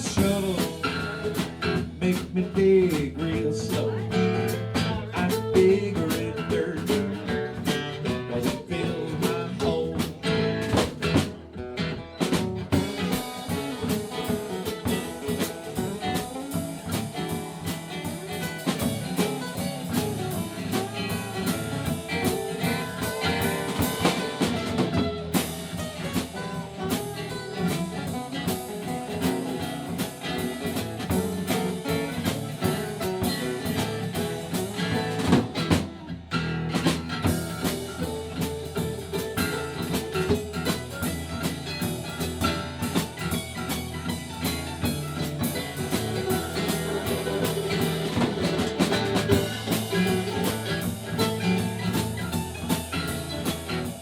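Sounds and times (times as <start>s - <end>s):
country band playing: 0.0s - 54.0s
drum kit beat: 0.0s - 54.0s
guitar: 0.0s - 54.0s.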